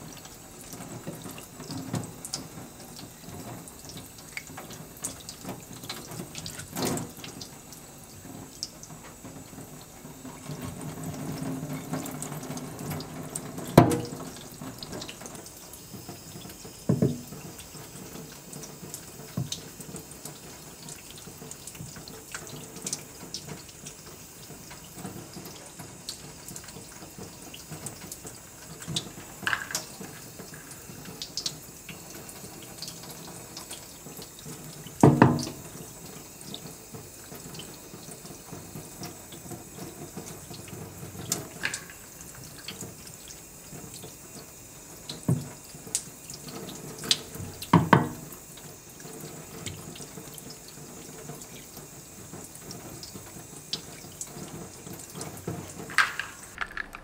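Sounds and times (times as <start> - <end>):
tap water running onto wood: 0.0 - 57.0.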